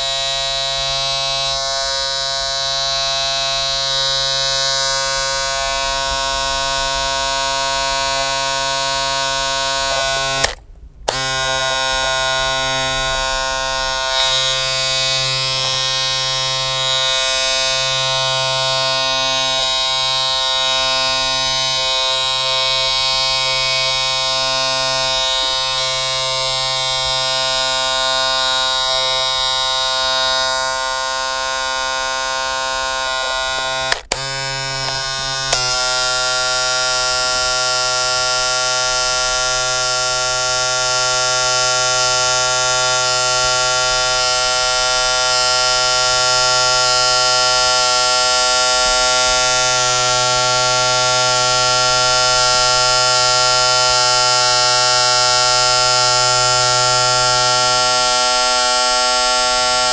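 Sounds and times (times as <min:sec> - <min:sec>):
loud electric buzz: 0:00.0 - 0:59.9.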